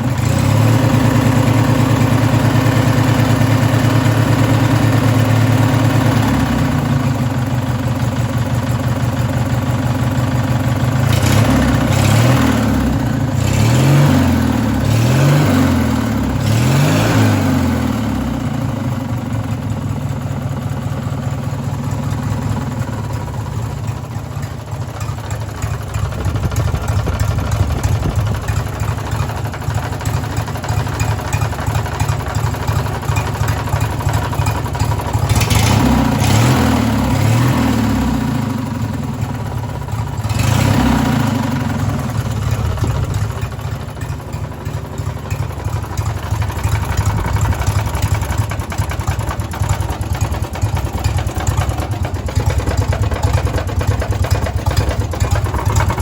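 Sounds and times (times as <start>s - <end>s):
lawn mower engine revving: 0.0s - 56.0s.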